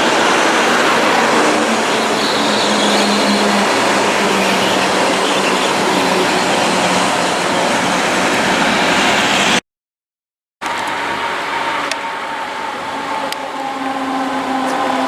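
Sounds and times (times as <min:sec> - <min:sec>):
tram rushing on rails: 0:00.0 - 0:09.6, 0:10.6 - 0:15.0.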